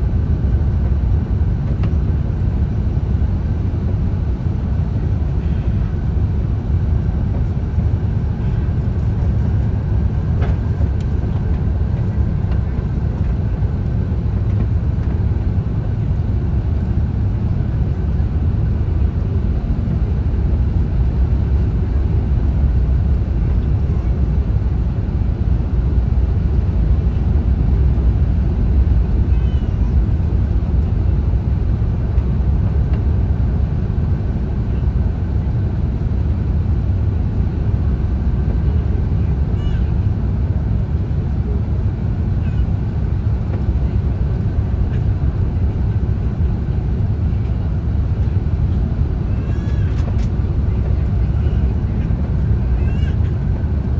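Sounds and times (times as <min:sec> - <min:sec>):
airliner low rumble: 0:00.0 - 0:53.9.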